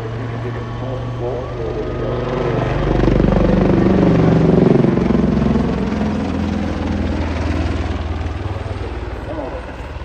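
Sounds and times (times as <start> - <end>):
helicopter engine running: 0.0 - 10.0
helicopter rotor beating: 0.0 - 10.0.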